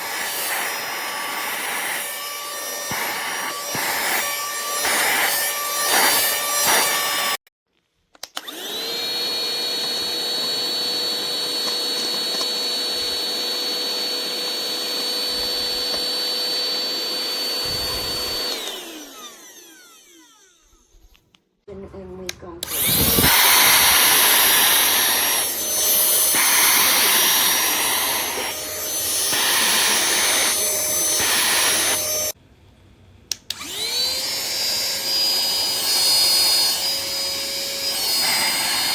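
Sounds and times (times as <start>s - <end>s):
handheld vacuum motor whining: 0.0s - 7.5s, 8.2s - 21.2s, 22.6s - 32.4s, 33.5s - 38.9s.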